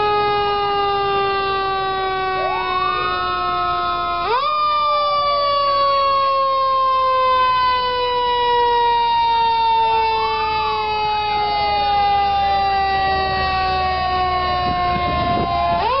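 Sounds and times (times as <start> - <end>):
fire truck siren wailing: 0.0 - 16.0
second siren quick wails: 0.0 - 16.0.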